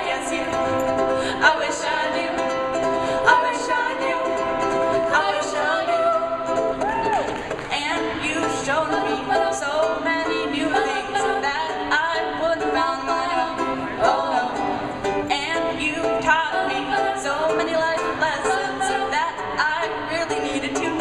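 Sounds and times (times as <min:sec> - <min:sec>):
voices singing in parts: 0:00.0 - 0:06.7, 0:07.7 - 0:21.0.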